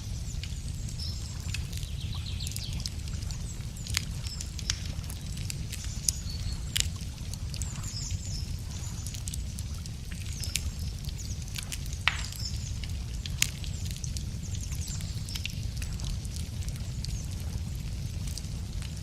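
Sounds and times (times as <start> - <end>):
small birds chirping: 0.0 - 17.7
low steady rumble: 0.0 - 19.0
wood fire crackling and popping: 0.0 - 19.0.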